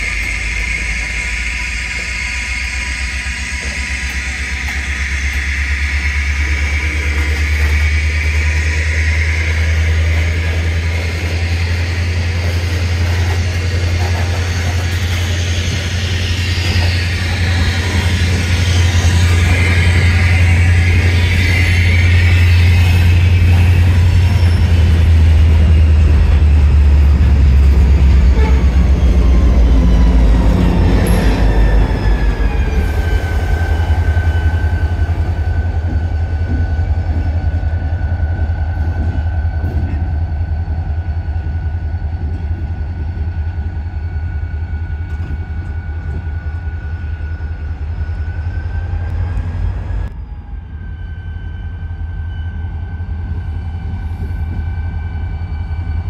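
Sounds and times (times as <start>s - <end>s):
diesel locomotive rumbling: 0.0s - 56.0s
falling whine: 0.0s - 56.0s.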